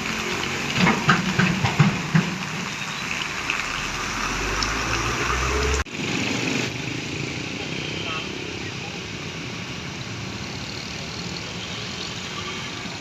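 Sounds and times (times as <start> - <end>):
truck engine rumble: 0.0 - 11.6
heavy rain hissing: 0.0 - 13.0.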